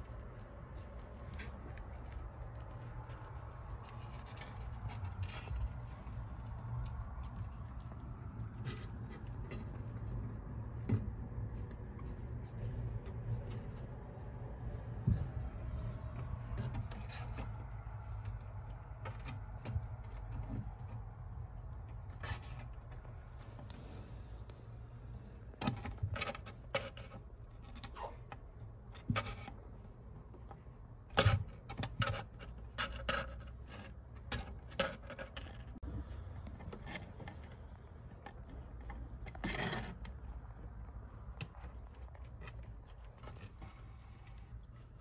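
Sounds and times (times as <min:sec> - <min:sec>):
kitten claws scratching on wood: 0:00.0 - 0:45.0.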